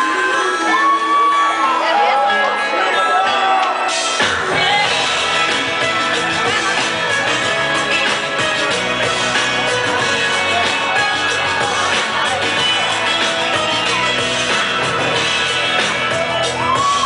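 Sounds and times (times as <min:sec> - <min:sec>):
loud club music with bass: 0:03.1 - 0:17.0.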